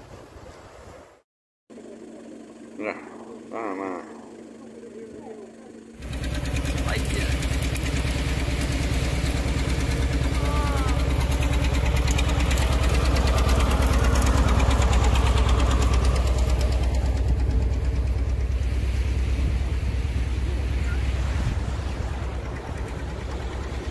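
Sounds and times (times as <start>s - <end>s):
tractor engine running: 1.8s - 23.9s.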